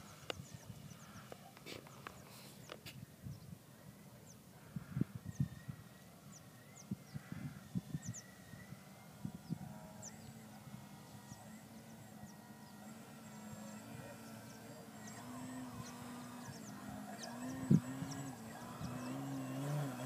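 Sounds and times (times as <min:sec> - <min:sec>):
distant electric model plane hum: 0:00.0 - 0:20.0.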